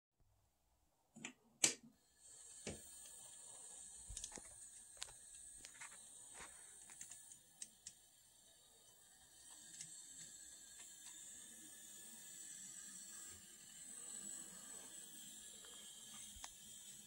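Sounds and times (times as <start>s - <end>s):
model train motor whine: 2.0s - 17.0s.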